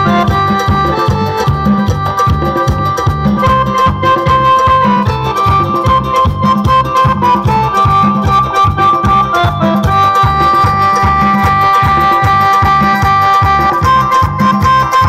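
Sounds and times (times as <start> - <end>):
hand drum beat: 0.0 - 15.0
keyboard sustained chords: 0.0 - 15.0.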